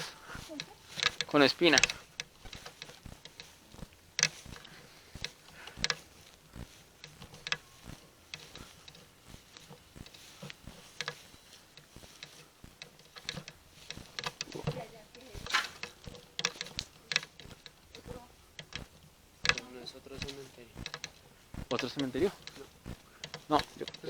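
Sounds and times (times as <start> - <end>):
footsteps crunching: 0.0 - 24.0.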